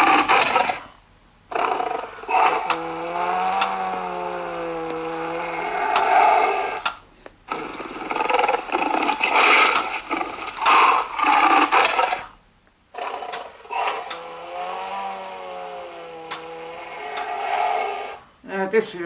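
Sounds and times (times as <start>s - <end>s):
recorded lion roar: 0.0s - 18.3s
low drawn-out mooing call: 1.5s - 12.3s, 13.0s - 18.3s
sharp clicks: 1.9s - 12.3s, 13.0s - 18.0s.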